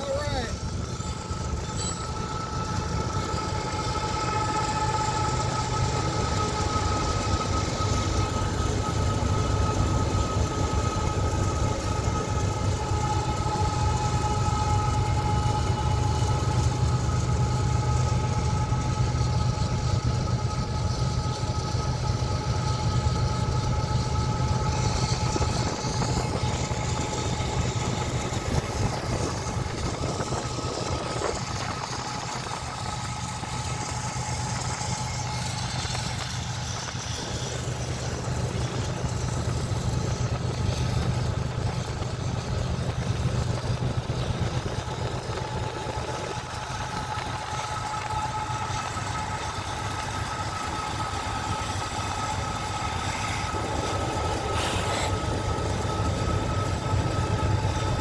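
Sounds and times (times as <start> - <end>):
freight train rumbling by: 0.0 - 58.0
steady whining tones: 0.0 - 58.0.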